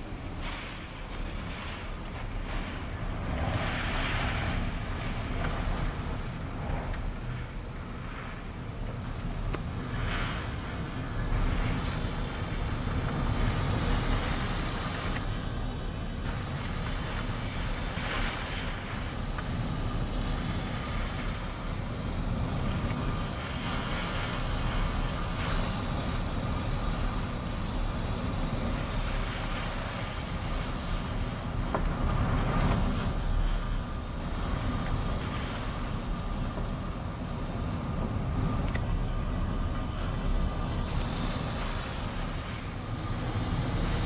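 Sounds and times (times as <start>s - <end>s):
strong wind gusts: 0.0s - 44.0s
wind buffeting microphone: 0.0s - 44.0s.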